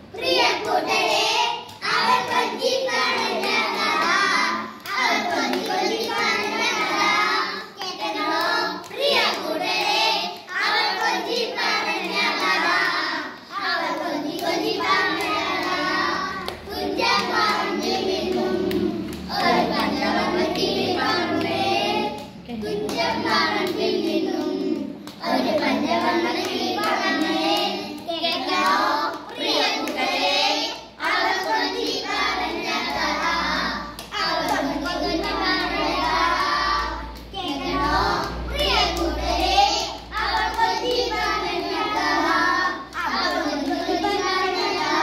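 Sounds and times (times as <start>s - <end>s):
children singing together: 0.0s - 45.0s
hands clapping: 0.2s - 7.0s, 7.8s - 30.2s, 33.6s - 45.0s.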